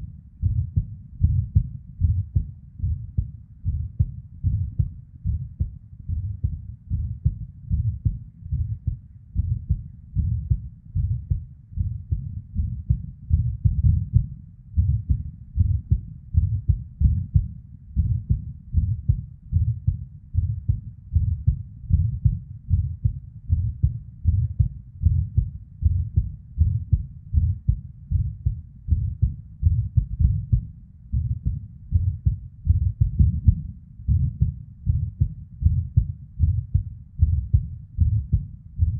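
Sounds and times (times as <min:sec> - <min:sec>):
heartbeat: 0:00.0 - 0:38.9.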